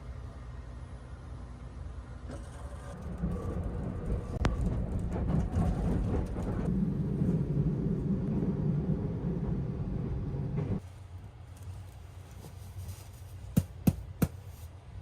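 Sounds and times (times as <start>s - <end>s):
train rumbling on rails: 0.0s - 14.2s.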